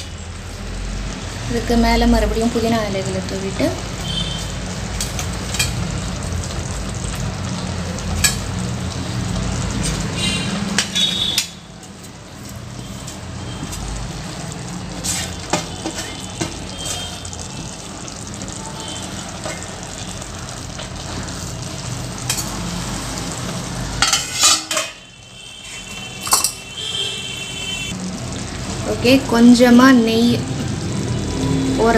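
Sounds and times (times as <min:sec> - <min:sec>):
pressure cooker sizzling: 0:00.0 - 0:31.9.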